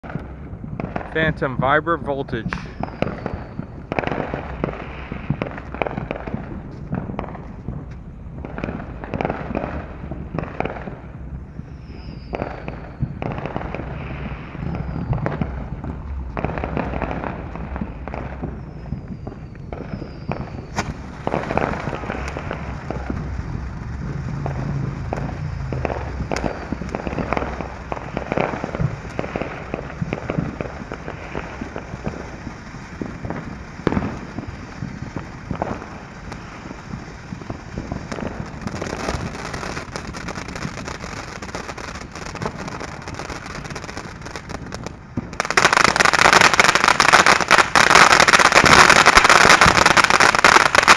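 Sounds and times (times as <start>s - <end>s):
firework fountain crackling and popping: 0.0s - 50.9s.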